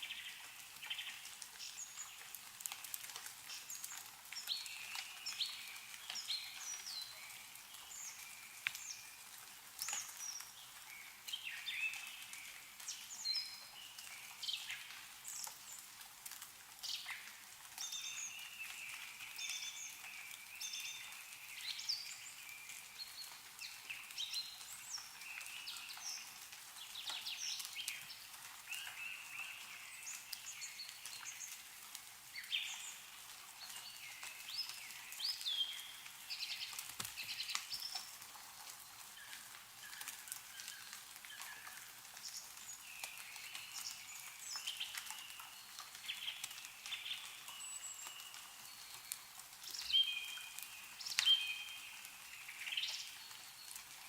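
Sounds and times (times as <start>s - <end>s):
meltwater drops falling: 0.0s - 54.0s
songbirds chirping: 0.0s - 54.0s.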